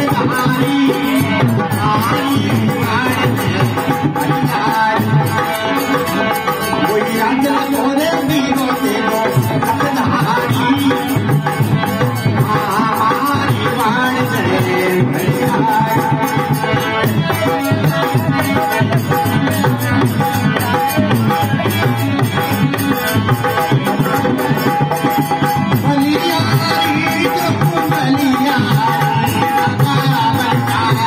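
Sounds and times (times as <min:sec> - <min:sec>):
fast hand drum rhythm: 0:00.0 - 0:31.0
harmonium held notes: 0:00.0 - 0:31.0
man singing: 0:00.0 - 0:31.0
rattling percussion: 0:00.0 - 0:31.0.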